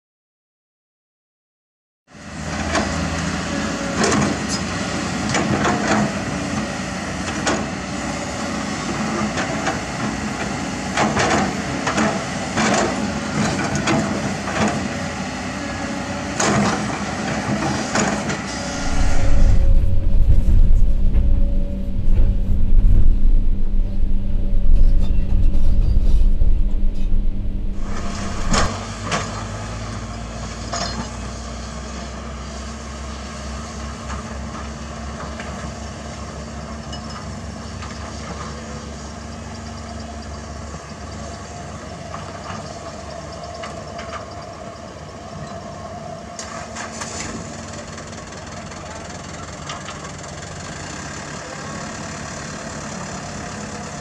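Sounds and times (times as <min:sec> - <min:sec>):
excavator diesel engine: 0:02.2 - 0:30.6, 0:37.5 - 0:54.0
dump truck diesel engine: 0:02.2 - 0:54.0.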